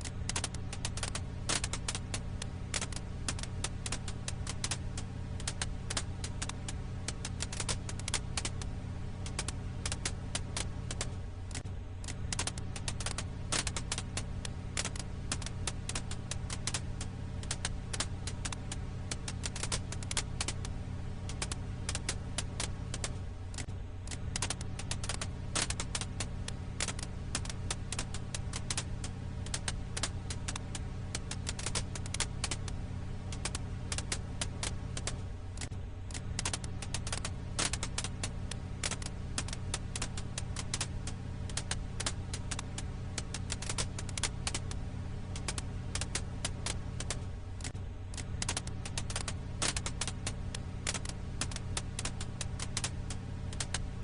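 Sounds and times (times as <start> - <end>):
firewood crackling: 0.0 - 54.0
steady low hum: 0.0 - 54.0.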